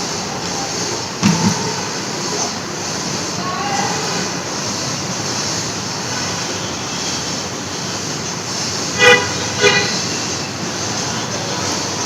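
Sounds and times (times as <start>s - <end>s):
road traffic hiss and rumble: 0.0s - 12.0s.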